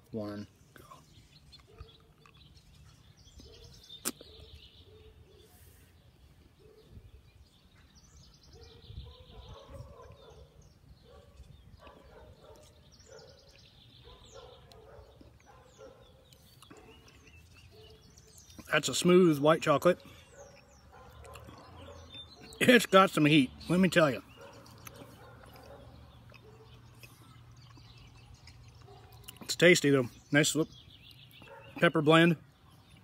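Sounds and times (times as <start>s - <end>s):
soft bird chirps: 0.3s - 33.0s.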